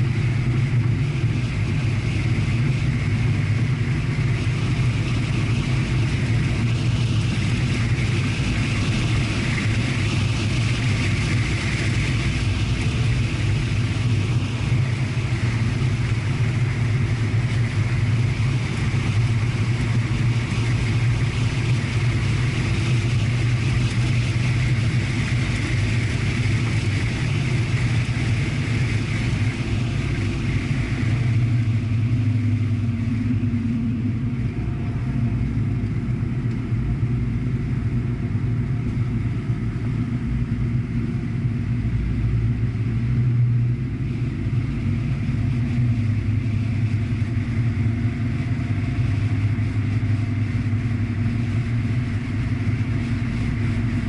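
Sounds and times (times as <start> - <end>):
car engine drone from inside: 0.0 - 54.0
wind and tyre rush: 0.0 - 54.0.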